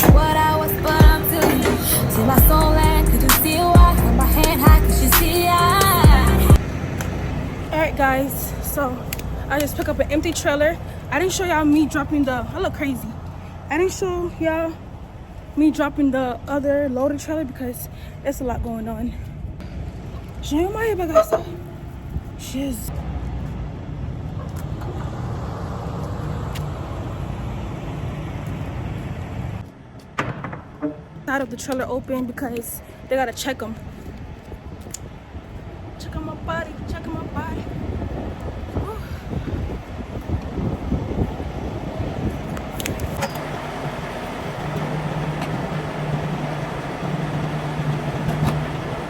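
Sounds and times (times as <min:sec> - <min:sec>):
diesel truck engine rumble: 0:00.0 - 0:31.7, 0:36.1 - 0:49.0.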